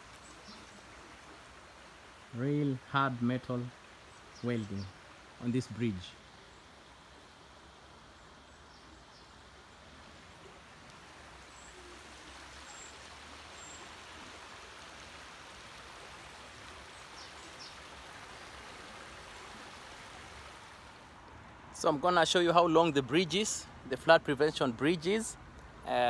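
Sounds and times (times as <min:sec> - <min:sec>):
stream rippling over stones: 0:00.0 - 0:26.0.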